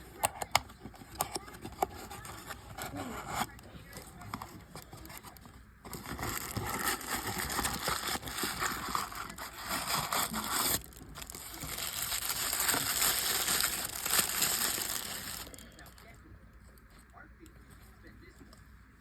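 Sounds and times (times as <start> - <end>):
plastic packaging crinkling and tearing: 0.0 - 16.2.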